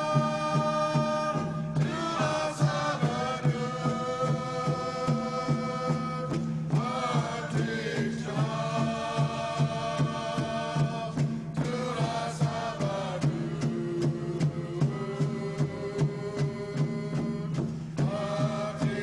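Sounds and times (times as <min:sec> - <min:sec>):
chanting voices: 0:00.0 - 0:19.0
steady drum beat: 0:00.0 - 0:19.0.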